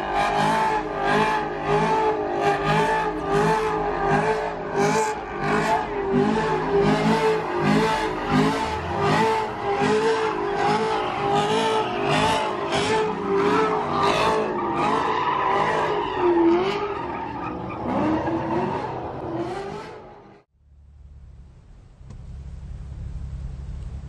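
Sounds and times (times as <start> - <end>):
car tyres squealing: 0.0 - 20.4
car engine revving: 0.0 - 24.0.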